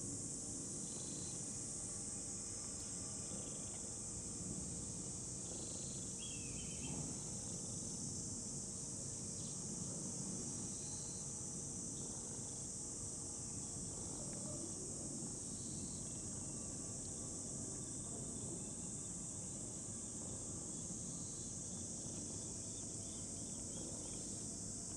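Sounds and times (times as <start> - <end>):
high insect chirp: 0.0 - 24.9
high-pitched insect drone: 0.0 - 24.9.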